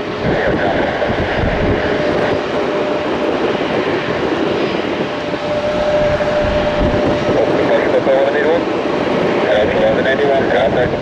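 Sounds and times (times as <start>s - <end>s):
jet engines roaring: 0.0s - 11.0s
steady engine whine: 0.0s - 11.0s.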